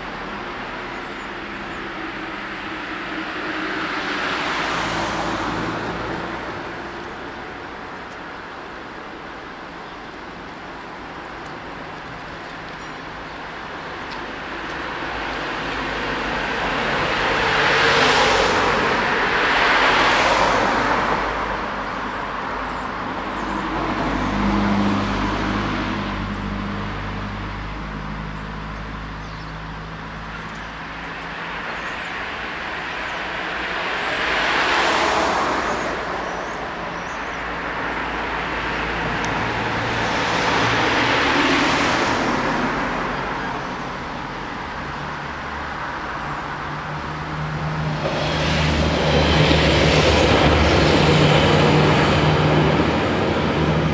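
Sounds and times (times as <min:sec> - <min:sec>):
vehicles driving past: 0:00.0 - 0:53.9.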